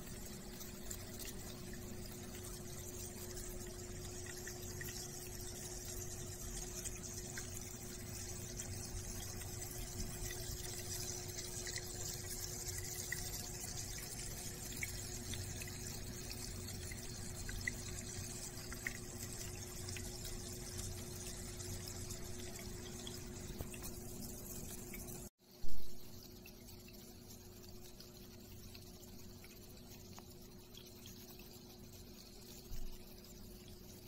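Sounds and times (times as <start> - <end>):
faint water drips: 0.0 - 34.0
low pump hum: 0.0 - 34.0
water trickling: 0.0 - 34.0.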